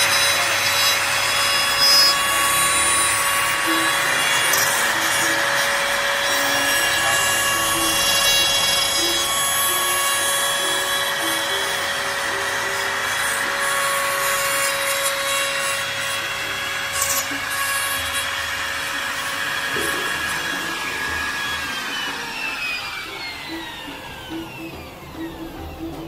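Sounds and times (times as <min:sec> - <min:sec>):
electric router cutting wood: 0:00.0 - 0:26.0.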